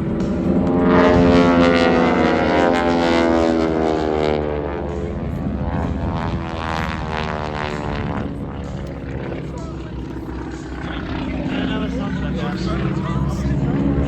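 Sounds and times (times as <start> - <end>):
propeller airplanes passing low: 0.0 - 14.0.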